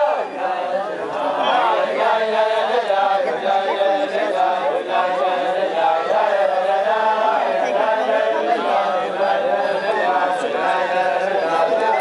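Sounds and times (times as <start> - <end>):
men singing in chorus: 0.0 - 12.0.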